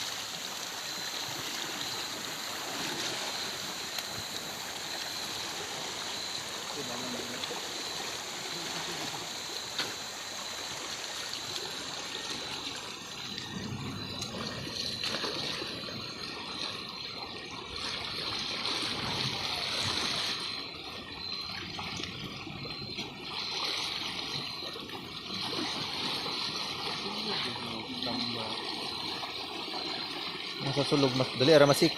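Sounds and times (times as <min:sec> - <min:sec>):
river water flowing and trickling: 0:00.0 - 0:31.9.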